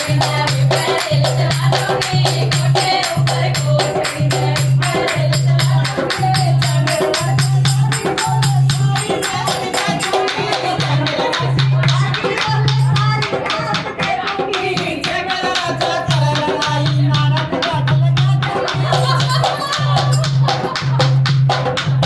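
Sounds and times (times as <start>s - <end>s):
women singing in group: 0.0s - 21.0s
hand drum rhythm: 0.0s - 22.0s
jingling percussion: 0.0s - 22.0s.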